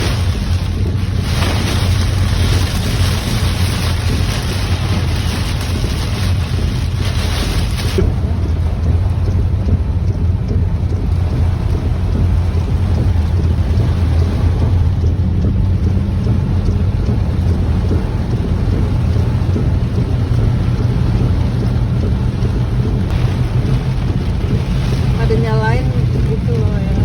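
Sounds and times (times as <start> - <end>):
heavy rain pelting a car: 0.0 - 27.0
low car cabin rumble: 0.0 - 27.0.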